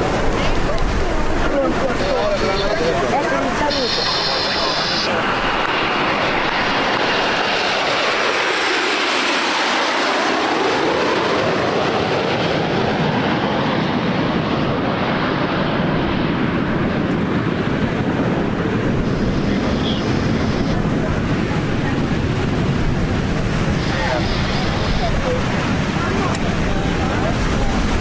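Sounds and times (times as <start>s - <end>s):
jet roar passing overhead: 0.0s - 28.0s.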